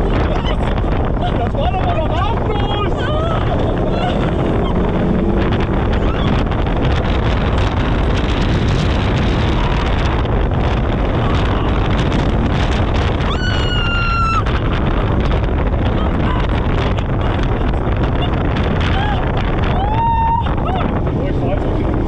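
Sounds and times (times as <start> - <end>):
vehicle engine and drivetrain: 0.0 - 22.0
wind buffeting microphone: 0.0 - 22.0.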